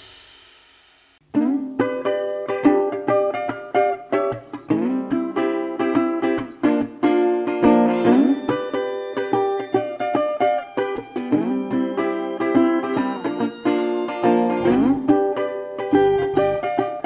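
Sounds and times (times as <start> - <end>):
plucked-string melody: 1.3 - 17.0.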